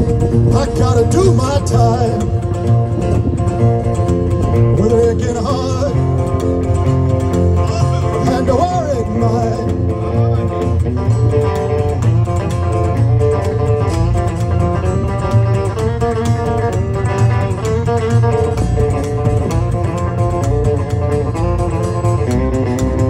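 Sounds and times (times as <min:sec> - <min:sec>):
rockabilly band playing: 0:00.0 - 0:23.0
upright bass: 0:00.0 - 0:23.0.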